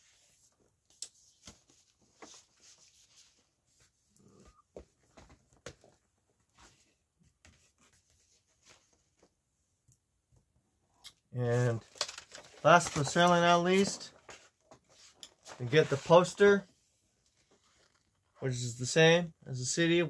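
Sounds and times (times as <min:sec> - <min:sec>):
vinyl records being handled: 0:00.0 - 0:09.4, 0:11.5 - 0:18.4.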